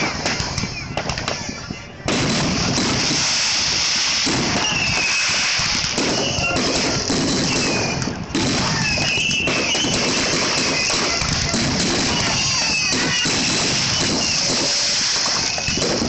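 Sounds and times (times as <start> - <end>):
fireworks bursts and crackle: 0.0 - 16.0
high gliding firework tones: 0.0 - 16.0.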